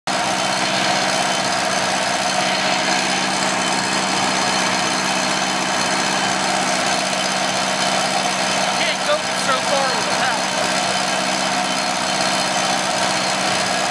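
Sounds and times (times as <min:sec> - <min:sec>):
concrete saw engine running: 0:00.1 - 0:13.9.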